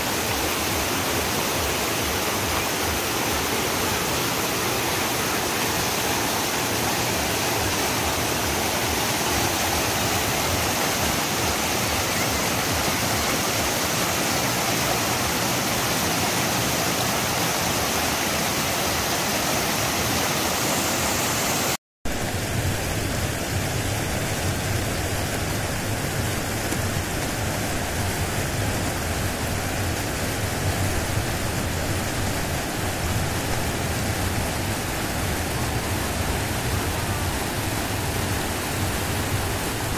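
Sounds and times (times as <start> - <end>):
river rushing through rapids: 0.0 - 39.9.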